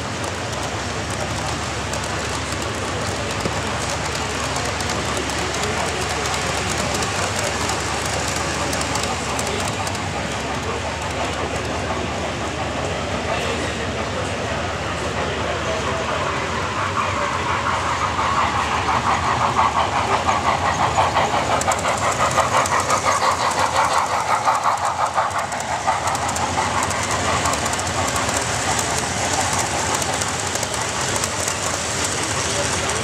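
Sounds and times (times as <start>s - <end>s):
model train wheels clicking: 0.0s - 33.0s.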